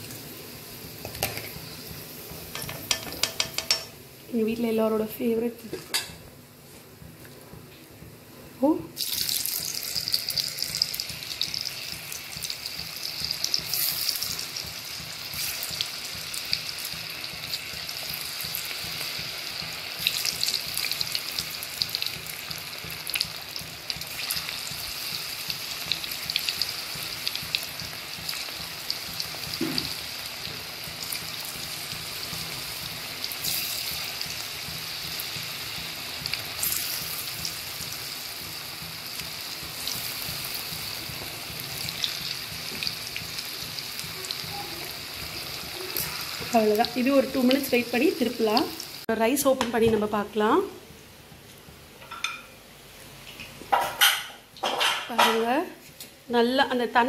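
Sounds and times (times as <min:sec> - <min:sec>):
batter deep-frying in oil: 0:00.0 - 0:06.2, 0:08.6 - 0:50.7.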